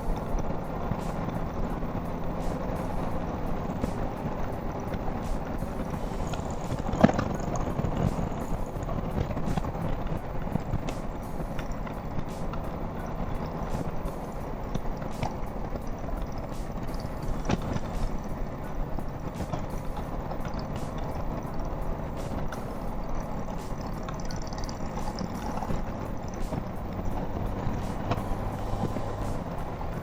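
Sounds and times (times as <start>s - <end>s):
motorcycle engine humming: 0.0s - 30.0s
wind and road noise: 0.0s - 30.0s.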